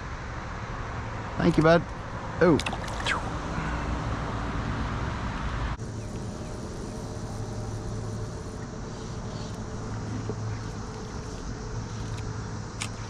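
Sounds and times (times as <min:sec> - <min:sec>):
outdoor background noise: 0:00.0 - 0:13.0
steady low hum: 0:00.0 - 0:13.0.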